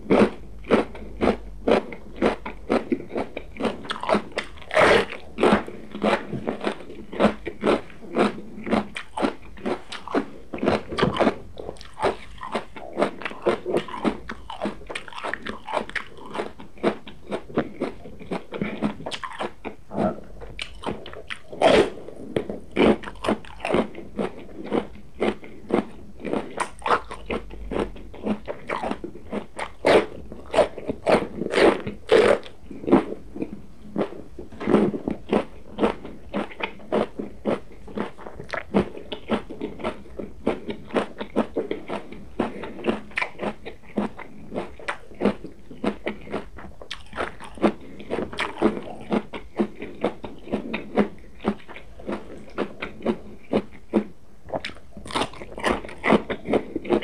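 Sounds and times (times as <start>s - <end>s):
crunching raw vegetables: 0.0s - 57.0s.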